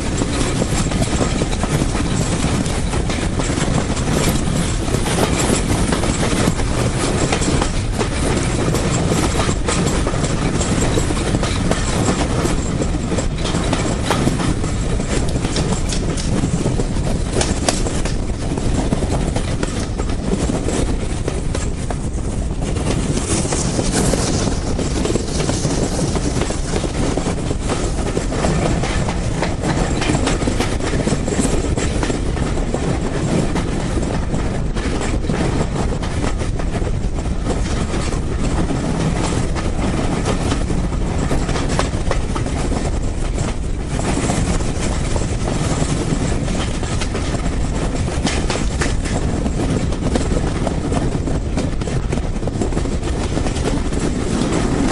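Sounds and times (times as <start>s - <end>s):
train rumbling: 0.0s - 54.9s
wheels clacking over rail joints: 0.0s - 54.9s.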